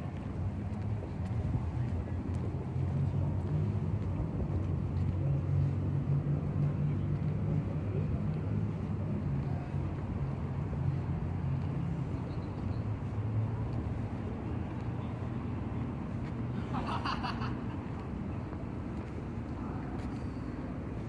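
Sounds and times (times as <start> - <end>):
distant city traffic rumble: 0.0 - 21.0.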